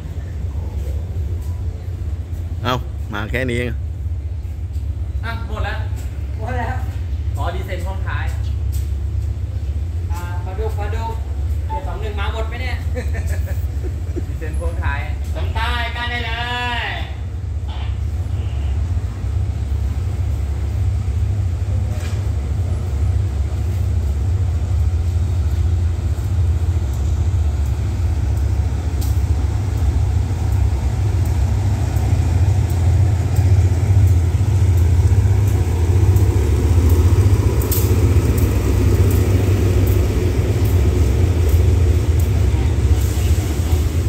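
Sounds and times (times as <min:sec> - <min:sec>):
diesel train engine rumbling: 0:00.0 - 0:44.0.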